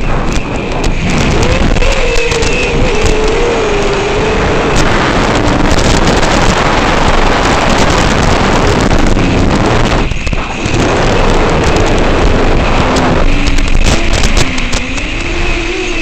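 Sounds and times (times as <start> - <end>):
drone motors whining: 0.0 - 16.0
wind rush: 0.0 - 16.0.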